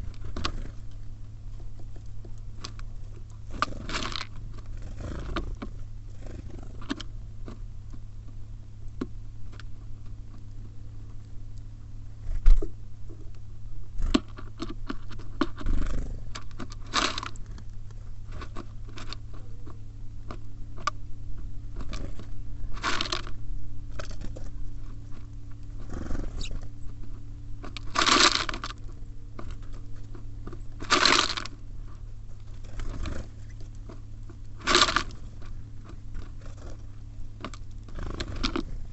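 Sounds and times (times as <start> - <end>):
birds pecking and cracking seeds: 0.0 - 38.9
steady low hum: 0.0 - 38.9.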